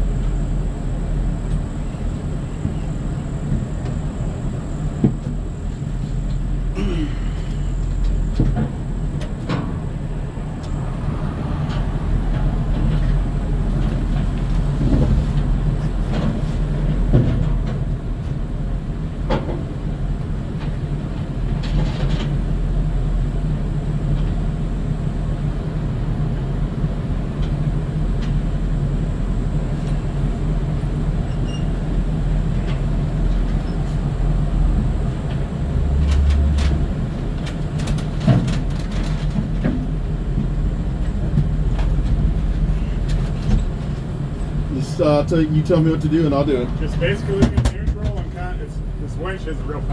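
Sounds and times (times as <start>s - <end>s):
large vehicle engine idling: 0.0s - 18.9s, 24.7s - 49.9s.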